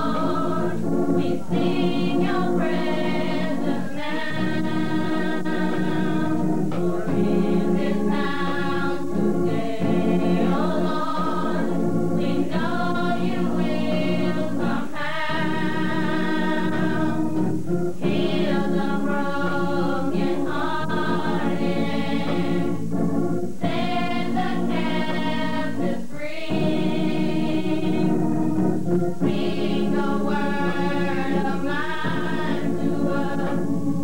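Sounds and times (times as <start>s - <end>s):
women singing gospel in harmony: 0.0s - 34.0s.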